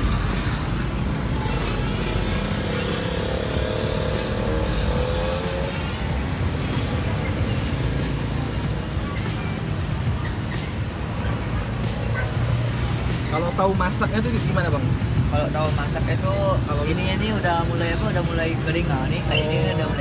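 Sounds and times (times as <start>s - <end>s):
cars and motorcycles passing: 0.0s - 20.0s.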